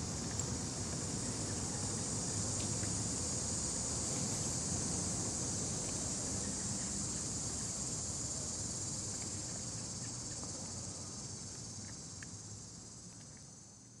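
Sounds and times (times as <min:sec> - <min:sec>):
insects hissing in grass: 0:00.0 - 0:14.0.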